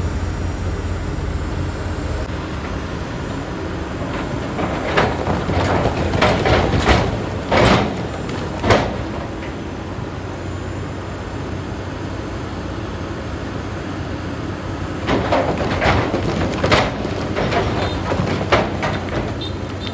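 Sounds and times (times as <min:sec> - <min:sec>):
heavy machinery engine running: 0:00.0 - 0:19.9.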